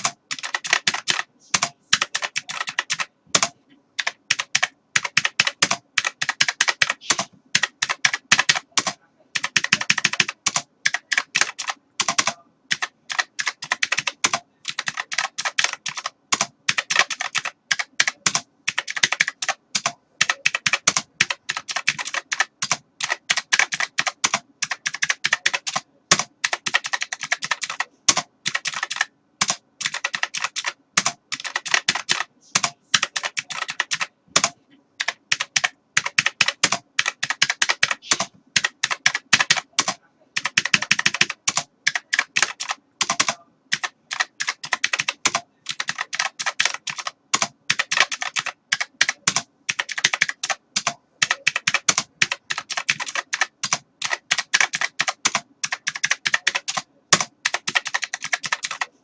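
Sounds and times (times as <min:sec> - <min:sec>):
typing on computer keyboard: 0:00.0 - 0:59.0.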